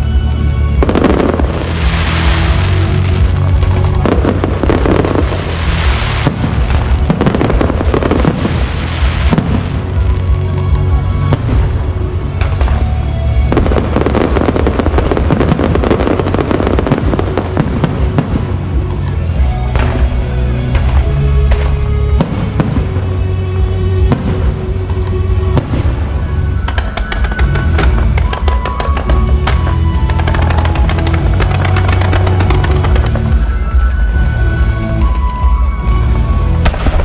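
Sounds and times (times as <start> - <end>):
fireworks crackling and bursting: 0.0 - 37.0
music: 0.0 - 37.0.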